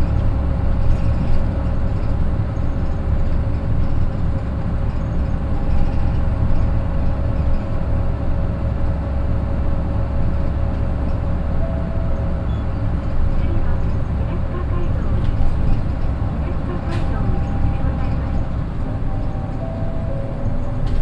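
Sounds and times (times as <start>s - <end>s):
diesel engine low rumble: 0.0s - 21.0s.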